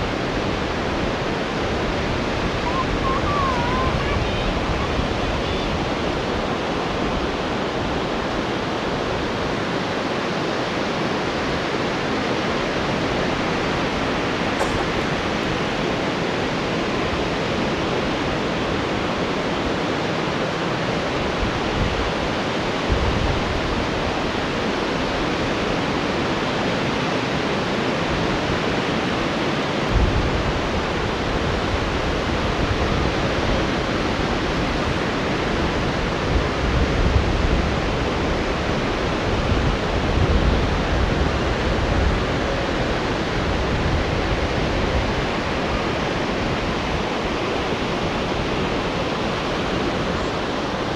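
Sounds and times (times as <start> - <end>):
wind buffeting microphone: 0.0 - 9.8, 11.2 - 50.9
strong wind: 0.0 - 50.9.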